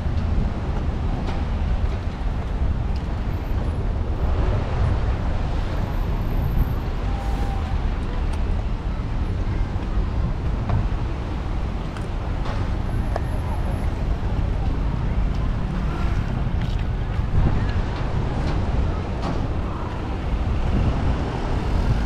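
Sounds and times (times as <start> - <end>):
cars passing on a road: 0.0 - 22.0.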